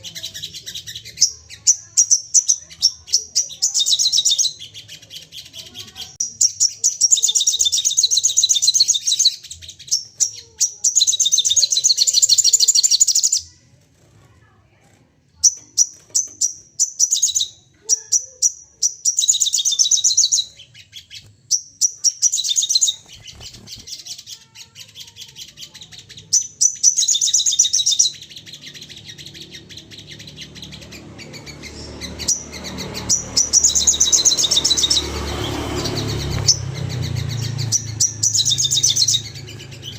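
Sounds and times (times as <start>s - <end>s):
birds chattering trills: 0.0s - 14.8s, 15.4s - 39.9s.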